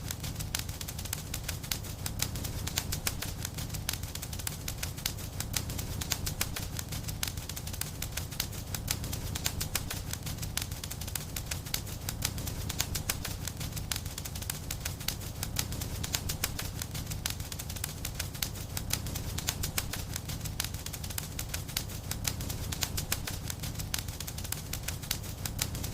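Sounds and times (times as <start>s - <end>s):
low rumble of flames: 0.0s - 25.9s
wood fire crackling: 0.0s - 25.9s.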